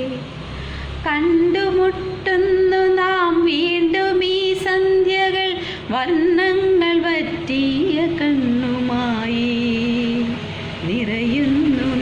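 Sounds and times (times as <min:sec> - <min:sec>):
woman singing slow melody: 0:00.0 - 0:12.0.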